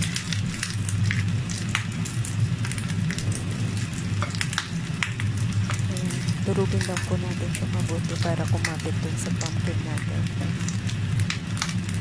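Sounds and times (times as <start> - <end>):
egg yolk sizzling and popping: 0.0 - 12.0
steady low hum: 0.0 - 12.0.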